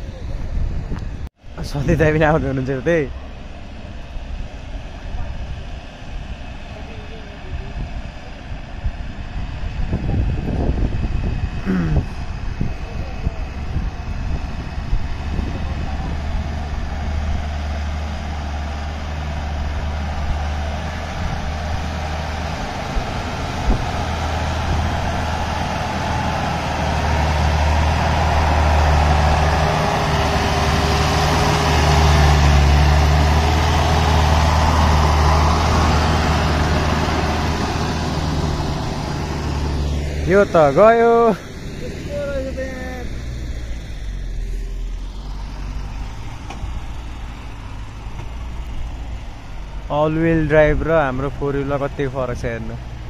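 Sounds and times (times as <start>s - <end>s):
truck engine under load: 0.0s - 53.0s.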